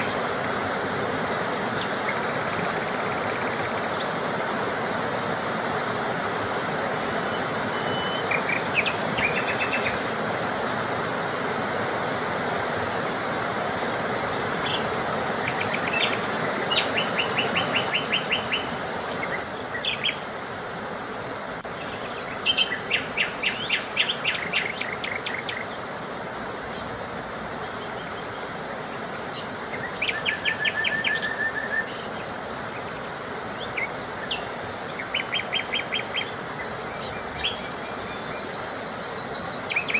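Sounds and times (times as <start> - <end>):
flowing water rushing: 0.0 - 39.9
songbirds chirping: 0.0 - 39.9.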